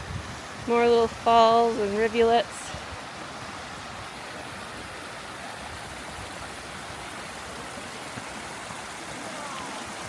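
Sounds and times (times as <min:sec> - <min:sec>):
stream rushing over cascades: 0:00.0 - 0:10.0.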